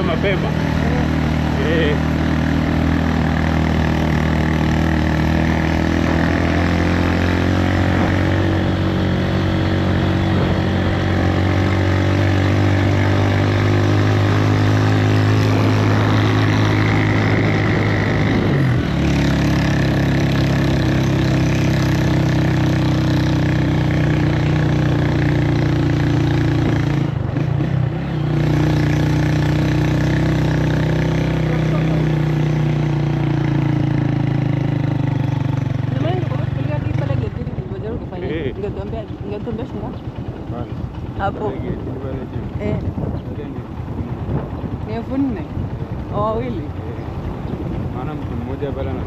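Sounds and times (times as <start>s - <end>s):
bus engine running: 0.0s - 49.0s.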